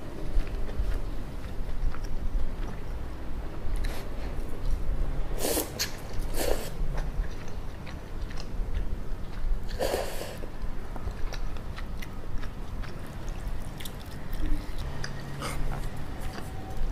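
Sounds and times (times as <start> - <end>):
chewing: 0.0 - 16.9
steady low hum: 0.0 - 16.9.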